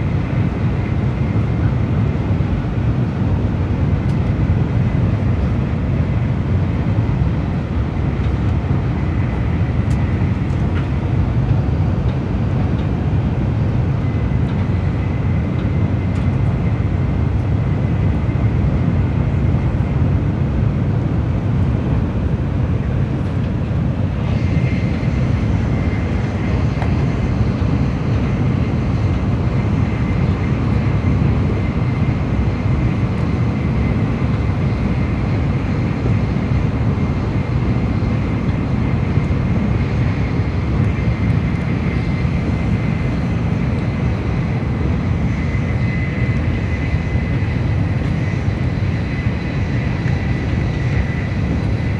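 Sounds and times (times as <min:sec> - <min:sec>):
train cabin rumble and rushing: 0:00.0 - 0:51.9.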